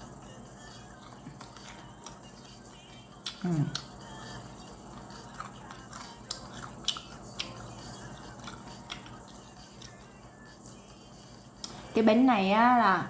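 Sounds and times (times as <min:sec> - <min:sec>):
person chewing: 0:00.6 - 0:11.0, 0:11.6 - 0:11.8.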